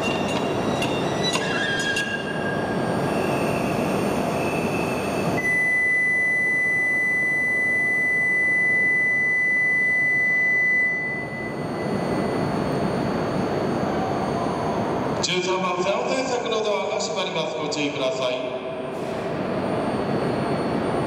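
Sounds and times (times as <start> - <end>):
electronic departure tone: 0.0 - 16.9, 18.4 - 21.0
train humming at platform: 0.0 - 21.0.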